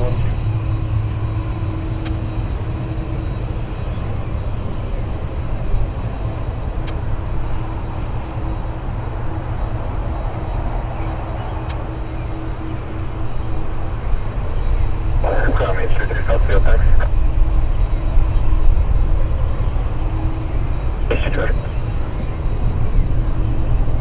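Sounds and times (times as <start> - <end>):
faint constant hum: 0.0 - 24.0
jet engines rumbling: 0.0 - 24.0.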